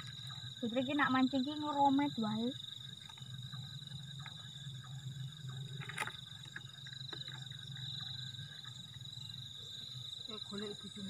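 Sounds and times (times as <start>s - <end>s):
frogs chorus: 0.0s - 11.0s
insects trilling: 0.0s - 11.0s.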